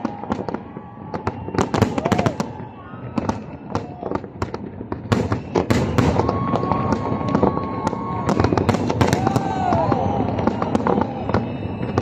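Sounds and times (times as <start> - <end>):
firework whistle: 0.0 - 12.0
fireworks bangs and crackles: 0.0 - 12.0.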